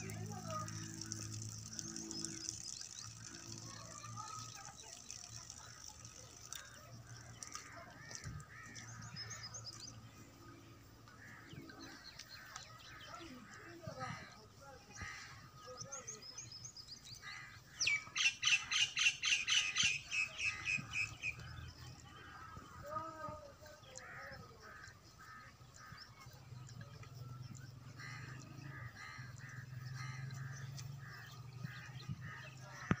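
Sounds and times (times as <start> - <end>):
birds calling: 0.0 - 33.0.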